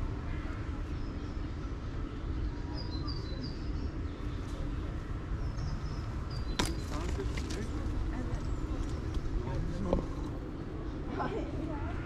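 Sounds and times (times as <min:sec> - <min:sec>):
small birds chirping: 0:00.0 - 0:11.5
steady low rumble: 0:00.0 - 0:12.0.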